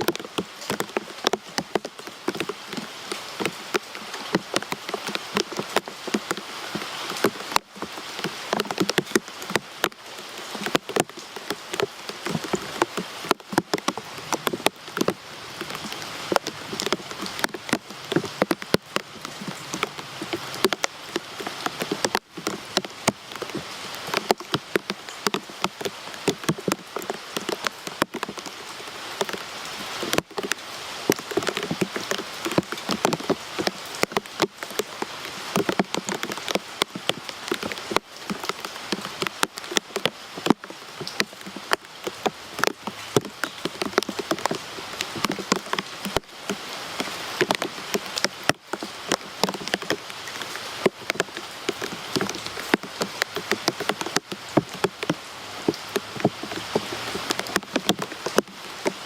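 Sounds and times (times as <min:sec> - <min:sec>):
rain drops on hard surface: 0:00.0 - 0:59.0.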